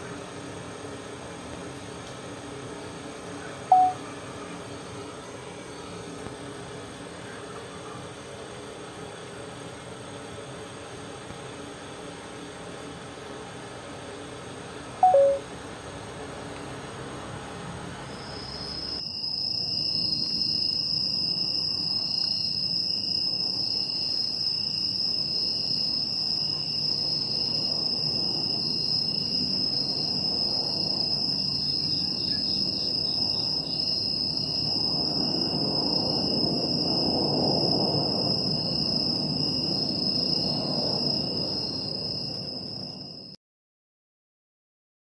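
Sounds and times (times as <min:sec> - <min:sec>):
crickets chirping: 0:02.4 - 0:43.4.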